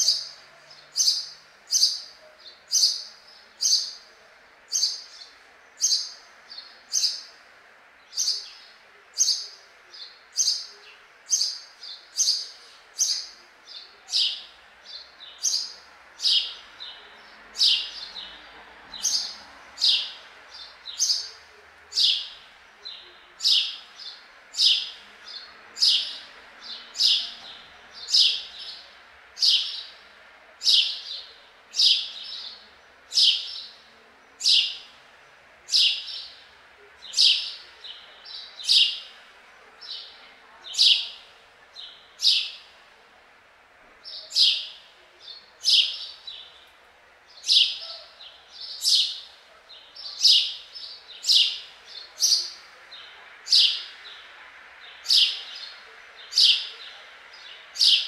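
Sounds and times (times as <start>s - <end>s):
sparrow chirping: 0.0s - 7.4s, 8.0s - 42.9s, 44.0s - 58.0s.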